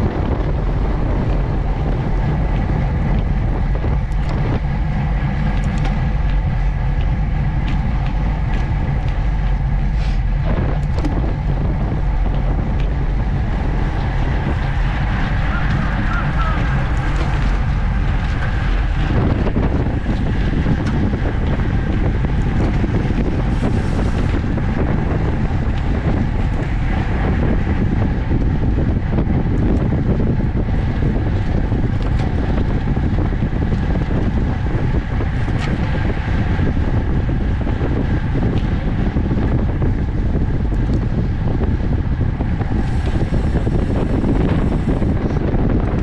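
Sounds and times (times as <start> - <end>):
wind rush on microphone: 0.0 - 46.0.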